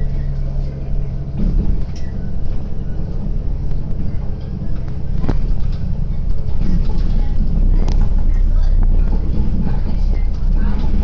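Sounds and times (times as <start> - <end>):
diesel engine drone: 0.0 - 11.0
wheels rumbling on rails: 0.0 - 11.0.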